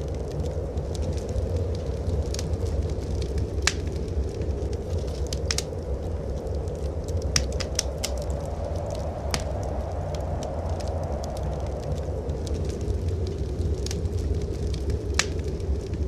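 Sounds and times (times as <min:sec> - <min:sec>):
blizzard wind rumble: 0:00.0 - 0:16.0
wood fire crackling: 0:00.0 - 0:16.0.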